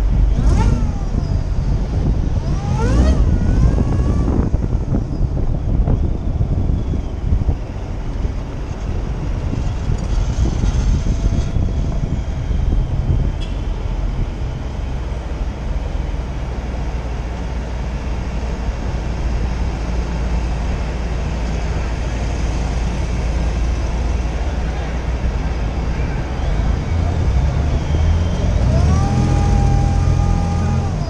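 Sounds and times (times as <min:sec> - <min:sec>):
car engine and tyre drone: 0:00.0 - 0:31.0.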